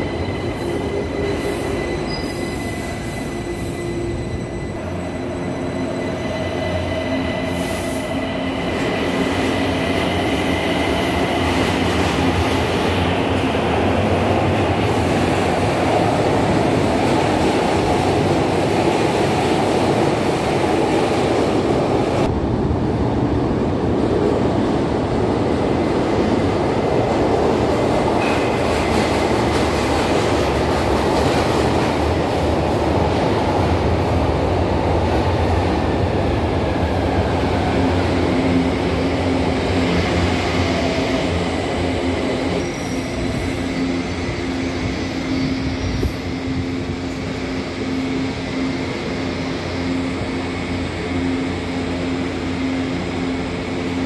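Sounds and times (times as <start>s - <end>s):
train onboard equipment hum: 0.0s - 54.0s
train wheels rumbling on rails: 0.0s - 54.0s.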